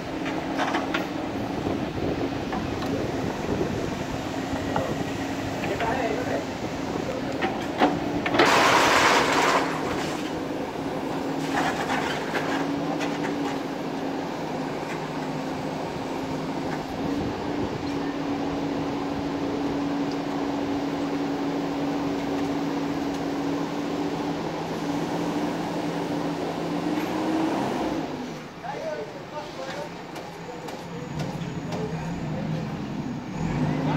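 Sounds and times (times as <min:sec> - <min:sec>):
diesel engine running: 0:00.0 - 0:28.6.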